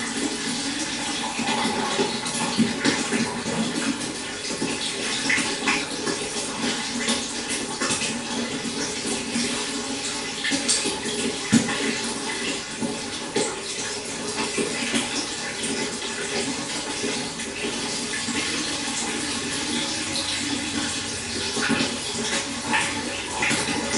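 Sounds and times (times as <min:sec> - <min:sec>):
pond water trickling and splashing: 0:00.0 - 0:23.9.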